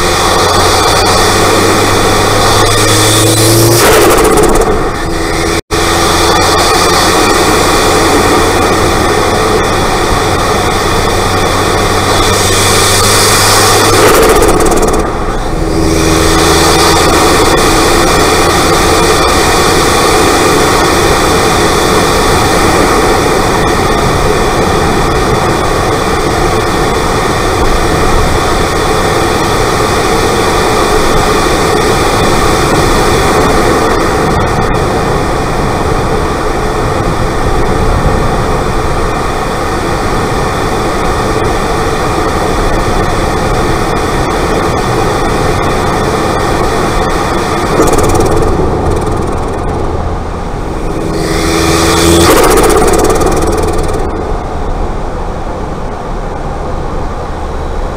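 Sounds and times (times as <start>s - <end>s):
turbocharged car engine running: 0.0s - 57.9s.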